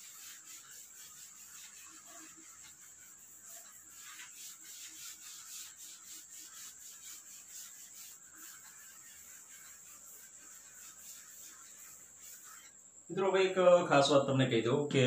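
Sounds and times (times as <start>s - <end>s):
chalk wiped off blackboard: 0.0s - 13.3s.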